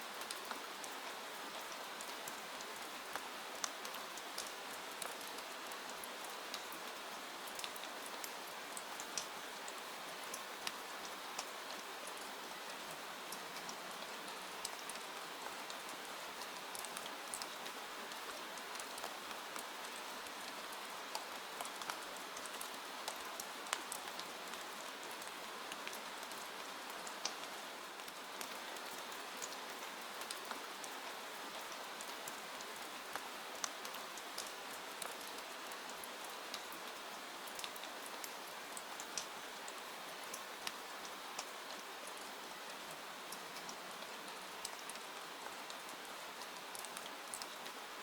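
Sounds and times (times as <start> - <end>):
steady rainfall hiss: 0.0 - 48.0
raindrops ticking on a surface: 0.1 - 48.0.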